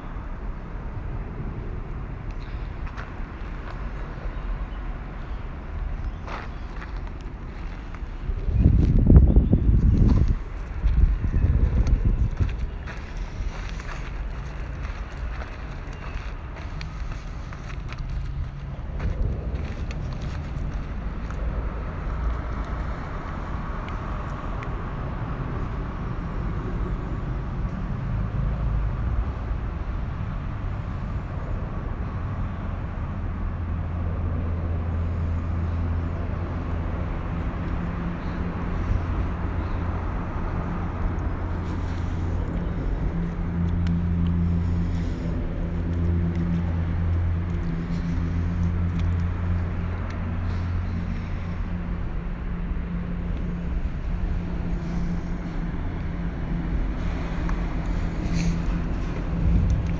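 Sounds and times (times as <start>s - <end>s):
traffic rumbling over bridge: 0.0s - 59.9s.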